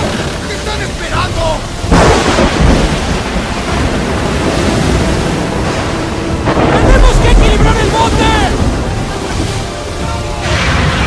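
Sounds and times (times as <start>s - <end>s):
loud water crash: 0.0s - 11.0s
wind and surf rushing: 0.0s - 11.0s.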